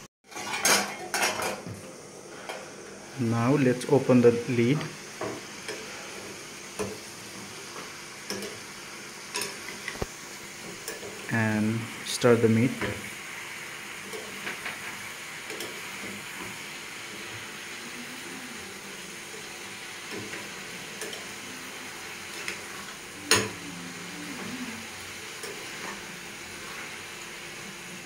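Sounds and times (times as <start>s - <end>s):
meat sizzling in hot oil: 0.3s - 28.0s.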